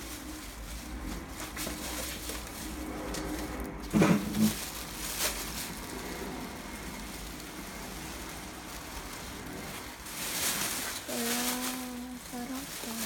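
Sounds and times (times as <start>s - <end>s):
rustling cardboard and foam: 0.0s - 13.0s.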